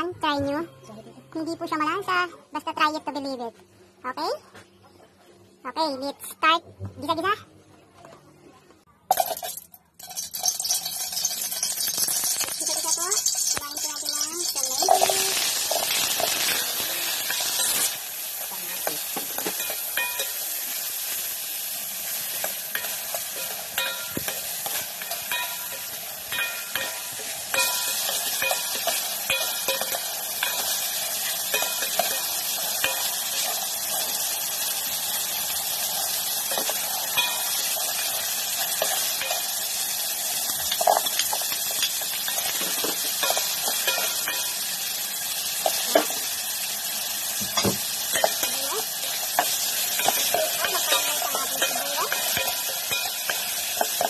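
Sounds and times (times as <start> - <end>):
vegetables sizzling in hot oil: 9.1 - 54.0.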